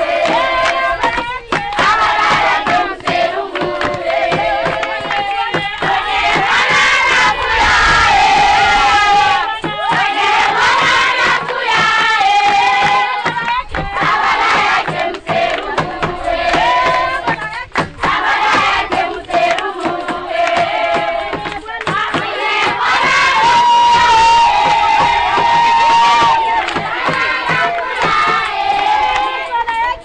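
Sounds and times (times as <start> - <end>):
crowd singing and shouting: 0.0 - 30.0
hand-clapping: 0.0 - 30.0.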